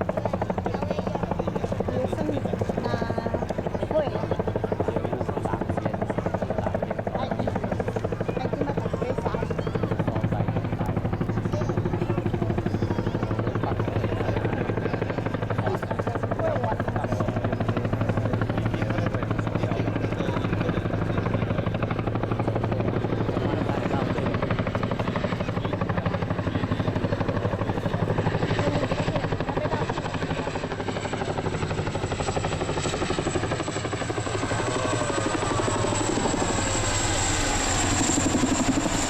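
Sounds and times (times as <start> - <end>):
helicopter rotor blades beating: 0.0 - 39.0.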